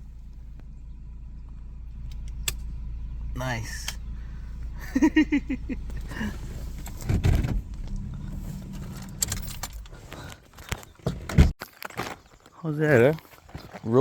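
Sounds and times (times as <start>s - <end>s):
car engine rumbling: 0.0s - 11.6s.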